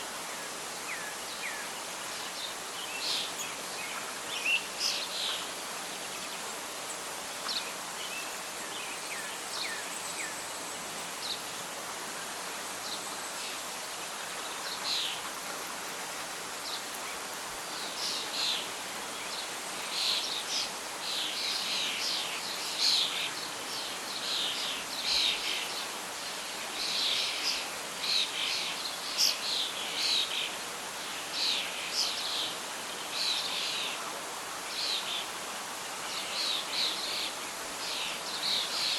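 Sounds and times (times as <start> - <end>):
leaves rustling: 0.0 - 38.9.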